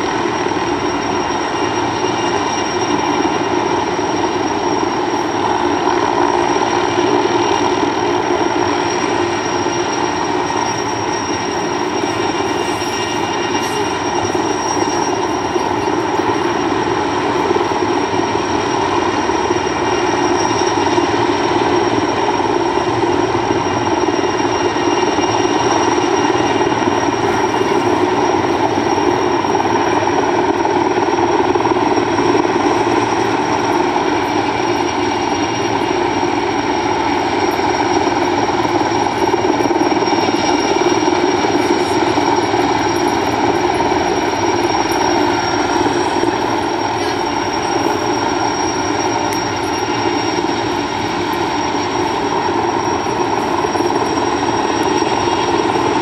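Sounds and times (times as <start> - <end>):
helicopter rotor drone: 0.0 - 56.0
high turbine whine: 0.0 - 56.0.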